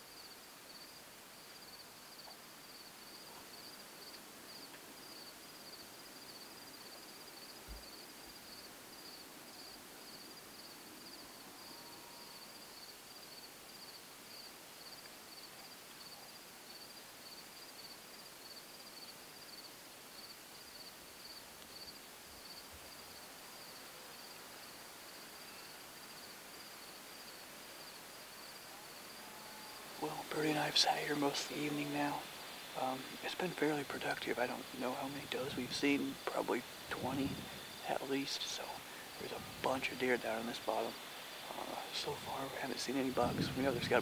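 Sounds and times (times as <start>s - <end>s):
crickets chirping: 0.0s - 44.0s
faint outdoor hiss: 0.0s - 44.0s.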